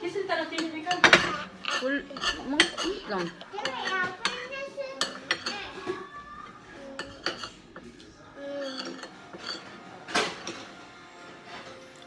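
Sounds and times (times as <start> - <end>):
tableware clattering: 0.0 - 12.0.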